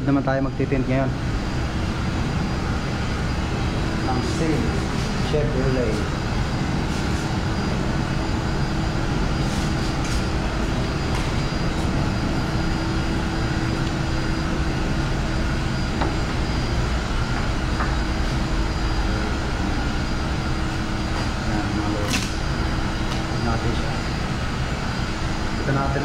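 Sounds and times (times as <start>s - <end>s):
constant tone: 0.0s - 26.0s
machine hum: 0.0s - 26.0s.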